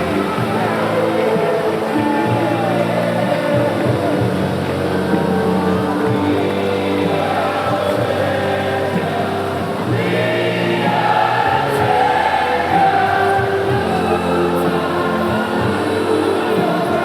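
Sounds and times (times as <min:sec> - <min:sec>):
many voices singing with music: 0:00.0 - 0:17.0.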